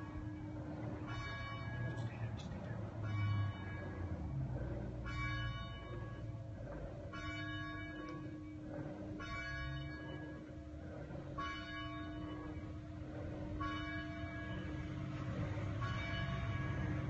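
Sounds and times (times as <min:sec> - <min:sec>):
church bell tolling: 0:00.0 - 0:10.8, 0:11.4 - 0:17.0.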